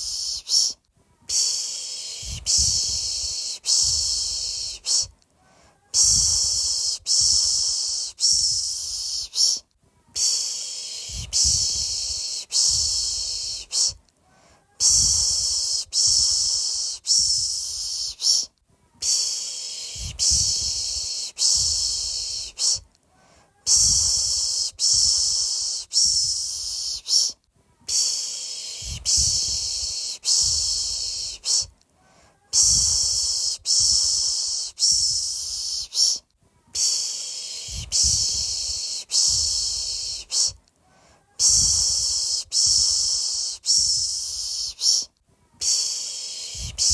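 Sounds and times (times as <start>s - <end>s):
person shushing: 0.0s - 46.9s.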